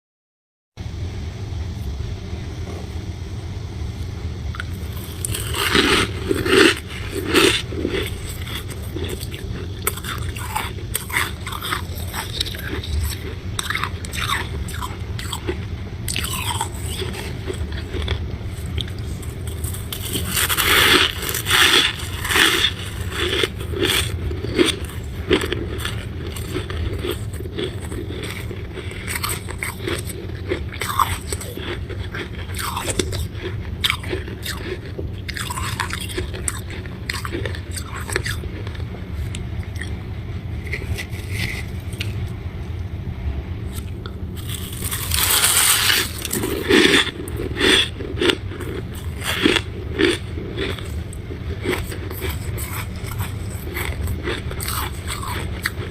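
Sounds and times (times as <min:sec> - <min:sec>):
steady low hum: 0:00.8 - 0:55.9
person chewing crunchy frost: 0:04.0 - 0:42.8, 0:43.6 - 0:55.9.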